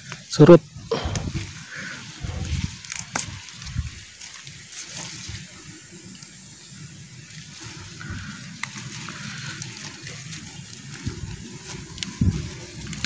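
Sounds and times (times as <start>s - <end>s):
plants rustling: 0.0s - 13.0s.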